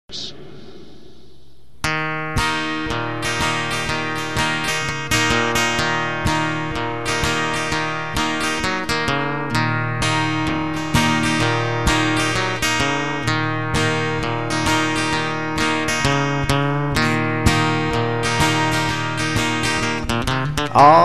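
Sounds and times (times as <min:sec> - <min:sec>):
acoustic guitar strumming chords: 0:01.8 - 0:21.0.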